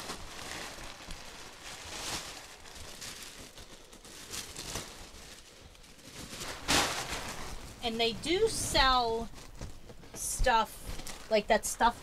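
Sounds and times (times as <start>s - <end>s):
plastic wrapping rustling: 0.0s - 12.0s.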